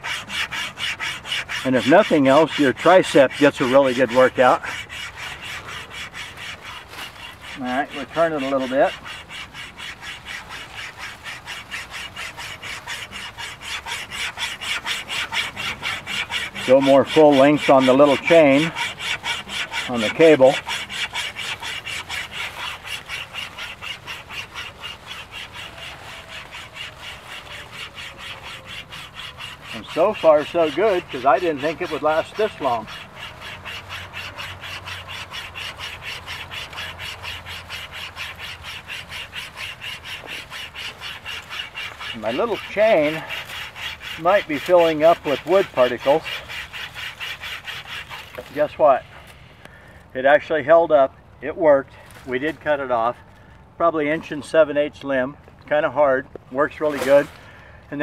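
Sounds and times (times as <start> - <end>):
chain saw rasping through wood: 0.0 - 50.0, 56.6 - 58.0.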